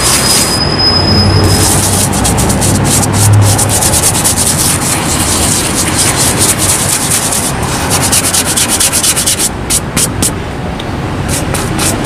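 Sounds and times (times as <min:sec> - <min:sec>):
brush scrubbing suede: 0:01.4 - 0:10.4, 0:11.3 - 0:12.0.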